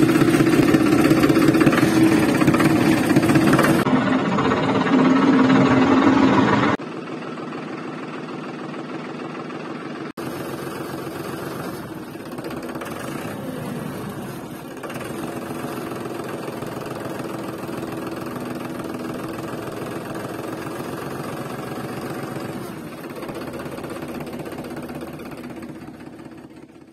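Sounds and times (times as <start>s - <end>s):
tractor engine chugging: 0.0s - 26.9s.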